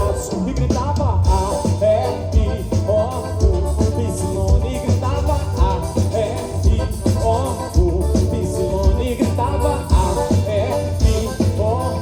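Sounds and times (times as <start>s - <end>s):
band melody line: 0.0s - 12.0s
bass and drum beat: 0.0s - 12.0s.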